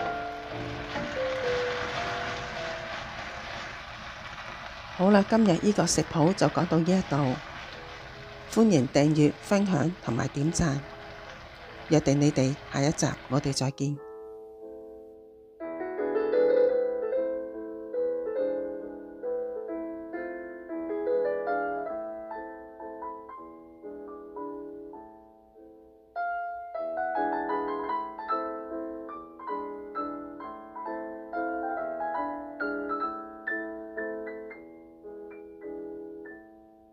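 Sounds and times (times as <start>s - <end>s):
gentle piano melody: 0.0s - 36.9s.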